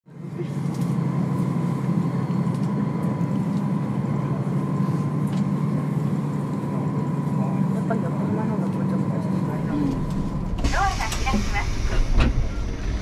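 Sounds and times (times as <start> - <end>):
train rumble: 0.2 - 13.0.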